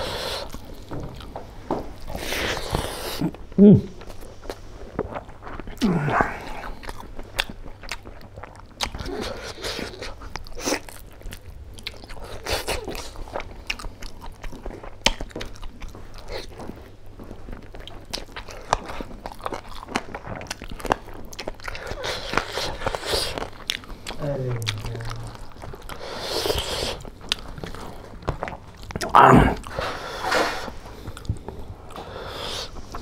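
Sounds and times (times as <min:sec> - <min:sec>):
man chewing with wet smacks: 0:00.0 - 0:33.0.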